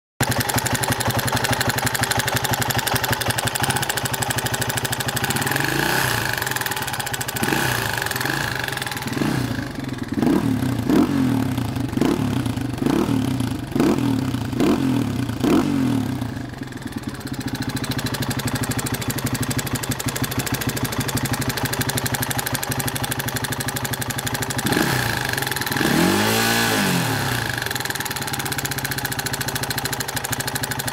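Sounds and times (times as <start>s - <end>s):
quad engine idling: 0.2s - 30.9s.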